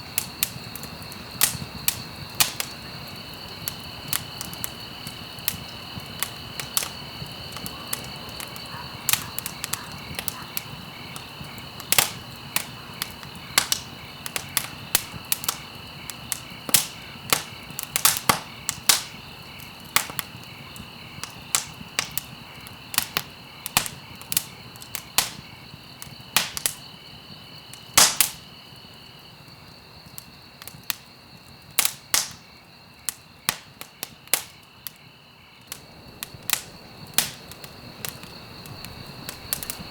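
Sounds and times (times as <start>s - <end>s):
campfire crackling: 0.0s - 39.9s
crickets chirring: 0.0s - 39.9s.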